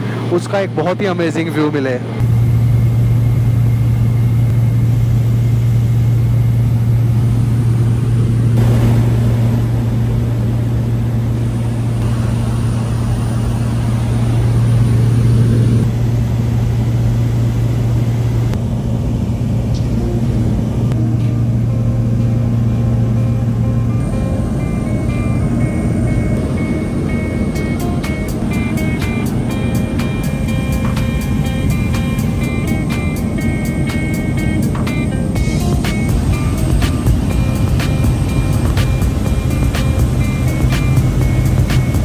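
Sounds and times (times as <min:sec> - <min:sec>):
turboprop engine drone in cabin: 0:00.0 - 0:42.0.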